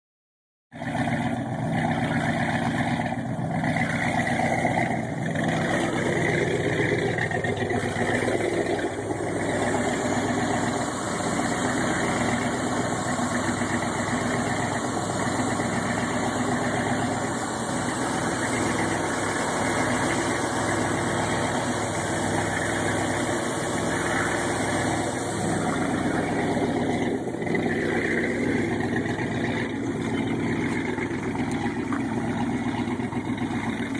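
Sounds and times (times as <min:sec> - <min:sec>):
boat engine idling: 0:00.7 - 0:33.9.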